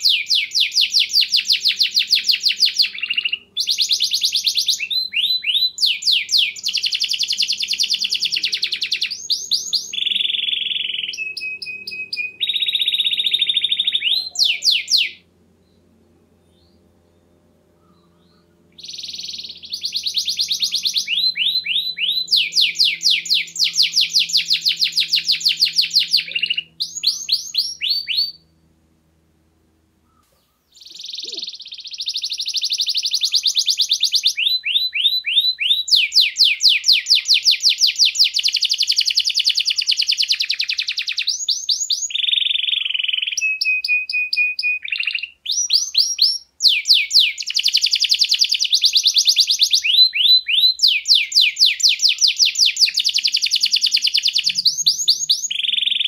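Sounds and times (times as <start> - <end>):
canary singing trills: 0.0 - 28.7, 30.0 - 56.0.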